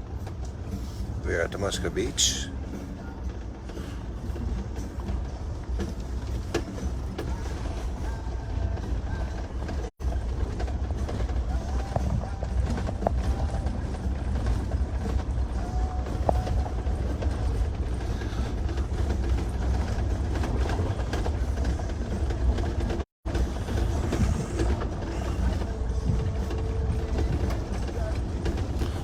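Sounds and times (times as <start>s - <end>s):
vehicle rumbling and rattling: 0.0s - 29.0s.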